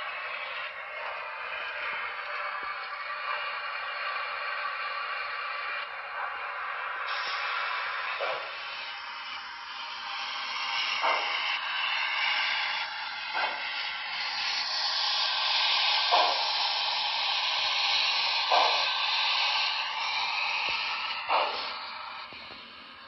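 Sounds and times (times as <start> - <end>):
model steam locomotive hiss: 0.0 - 23.0
short low steam bursts: 0.0 - 23.0.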